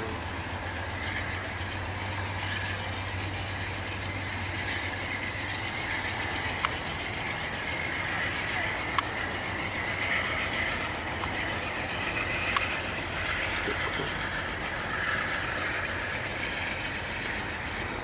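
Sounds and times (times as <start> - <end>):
faint high-pitched pulsing: 0.0 - 18.0
passenger train running on rails: 0.0 - 18.0.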